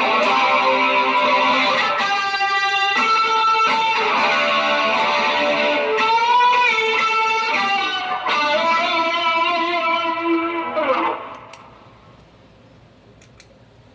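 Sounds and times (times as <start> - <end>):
electric guitar ringing lead notes: 0.0 - 11.5.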